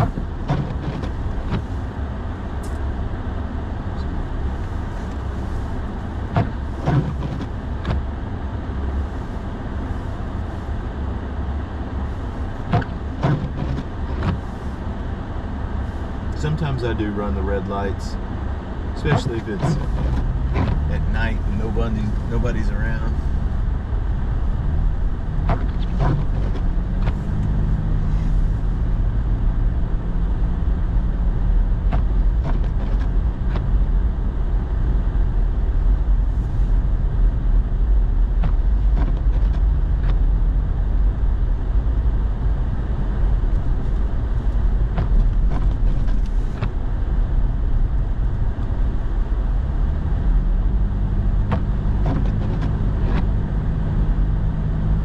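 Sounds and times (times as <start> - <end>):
truck engine and road rumble: 0.0 - 55.0.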